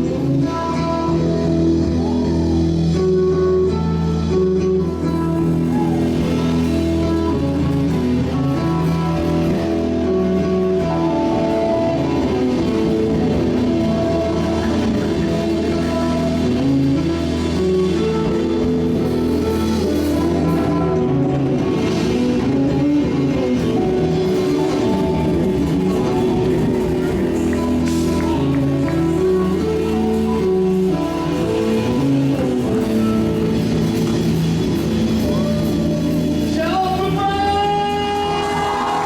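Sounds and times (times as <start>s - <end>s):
drums: 0.0s - 39.0s
guitar: 0.0s - 39.0s
low bass line: 0.0s - 39.0s.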